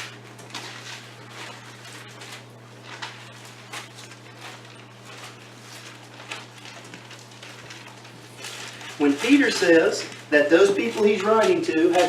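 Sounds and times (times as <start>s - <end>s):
book pages being flipped: 0.0s - 12.0s
steady low hum: 0.0s - 12.0s.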